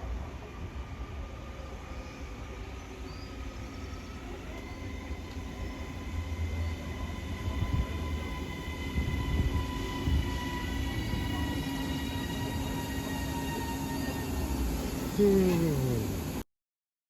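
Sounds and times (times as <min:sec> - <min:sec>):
train rumbling: 0:00.0 - 0:16.4.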